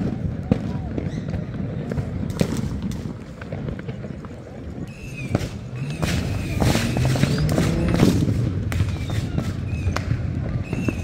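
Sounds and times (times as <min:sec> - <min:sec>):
fireworks booming and cracking: 0:00.0 - 0:11.0.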